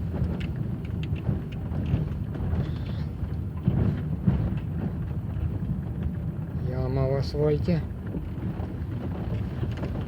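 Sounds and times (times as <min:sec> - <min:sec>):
low rumble of engine and tyres: 0:00.0 - 0:10.0.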